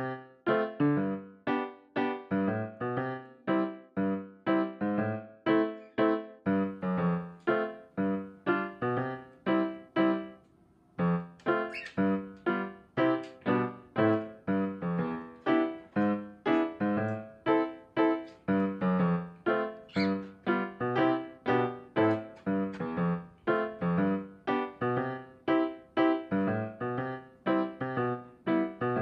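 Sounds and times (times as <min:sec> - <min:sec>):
piano-like keyboard notes: 0:00.0 - 0:29.0.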